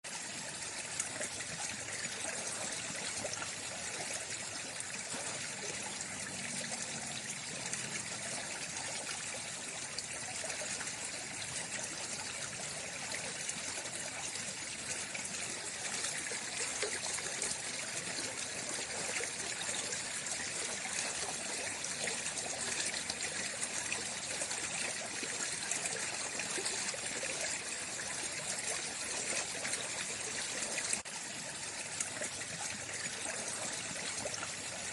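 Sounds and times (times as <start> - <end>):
water flowing and trickling: 0.0 - 34.9.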